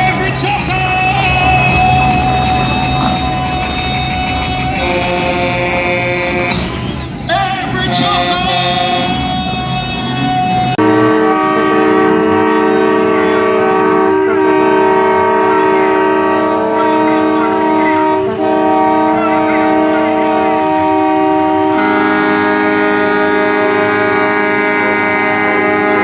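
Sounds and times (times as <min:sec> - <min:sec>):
truck air horns chord: 0:00.0 - 0:26.0.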